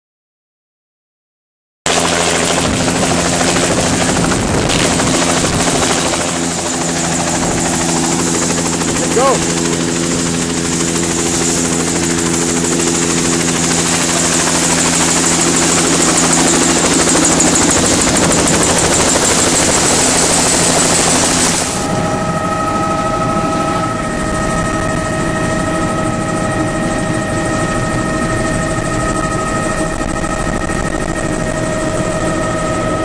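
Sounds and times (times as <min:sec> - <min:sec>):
helicopter cabin hum: 0:01.9 - 0:33.0
helicopter rotor and turbine whine: 0:01.9 - 0:33.0.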